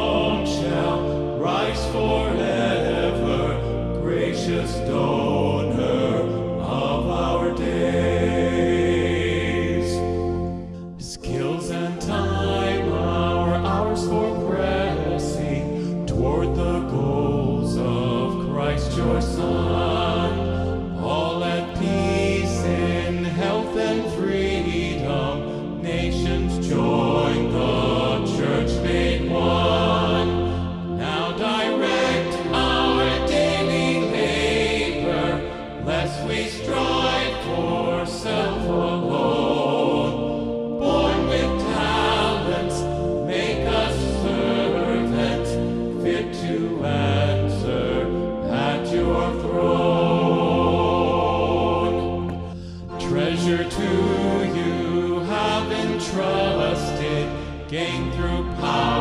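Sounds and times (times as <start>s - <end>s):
sustained instrumental accompaniment: 0.0s - 59.0s
voices singing a hymn: 0.0s - 59.0s.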